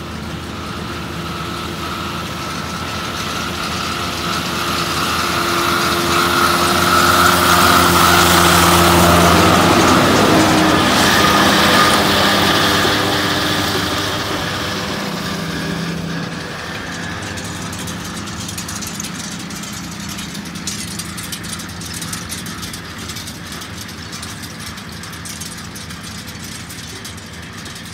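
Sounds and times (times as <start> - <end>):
distant farm machinery hum: 0.0 - 27.9
tractor engine and mower running: 0.0 - 27.9.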